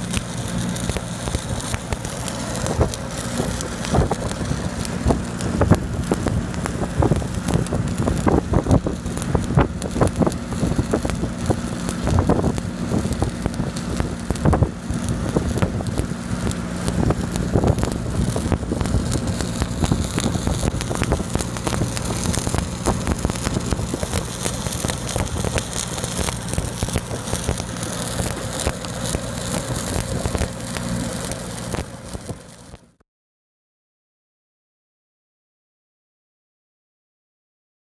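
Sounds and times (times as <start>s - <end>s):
engine humming: 0.0s - 32.8s
welding arc crackling and sizzling: 0.0s - 33.0s.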